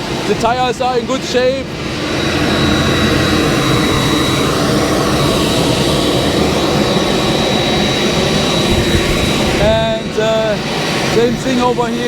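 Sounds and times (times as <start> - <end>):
high-pitched whine: 0.0 - 12.0
jet turbine noise: 0.0 - 12.0.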